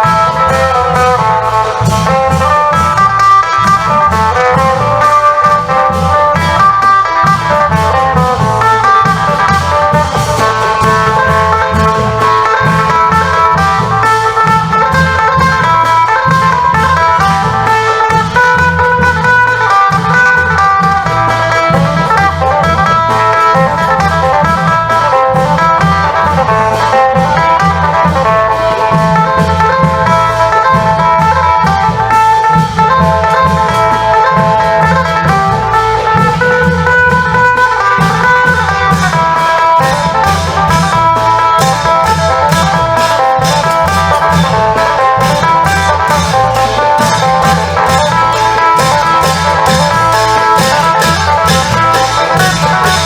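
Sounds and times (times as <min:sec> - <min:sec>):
long-drum band rhythm: 0:00.0 - 0:53.0
plucked lute melody: 0:00.0 - 0:53.0.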